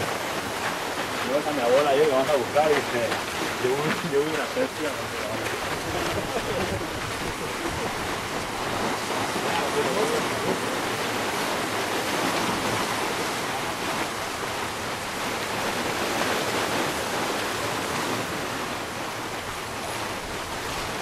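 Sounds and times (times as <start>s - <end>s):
surf washing over rocks: 0.0s - 21.0s.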